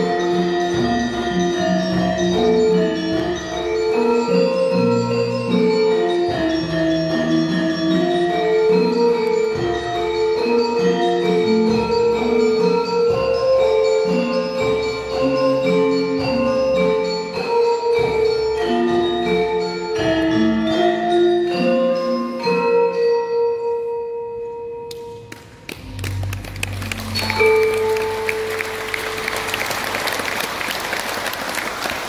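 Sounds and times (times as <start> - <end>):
gamelan metallophones and gongs: 0.0 - 24.9, 26.6 - 29.9.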